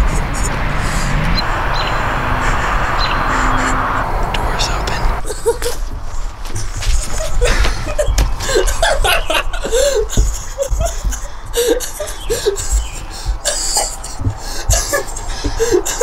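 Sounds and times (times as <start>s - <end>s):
people laughing and snickering: 2.0s - 16.0s.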